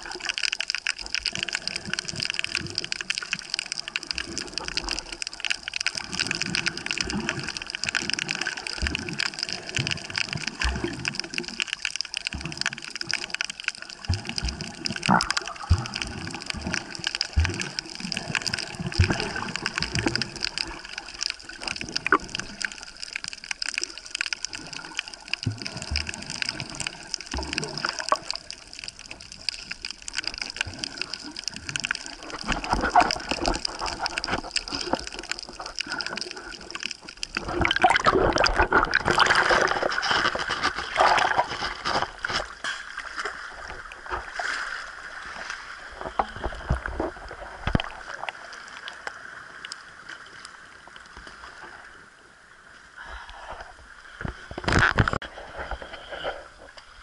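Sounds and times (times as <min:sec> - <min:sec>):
underwater bubbling and sloshing: 0:00.0 - 0:57.0.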